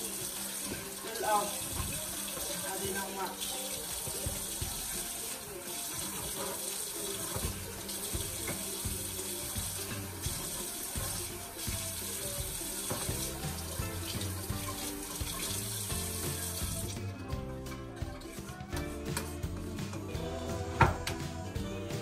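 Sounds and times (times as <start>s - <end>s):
music playing: 0.0s - 22.0s
water running from a tap: 0.0s - 22.0s.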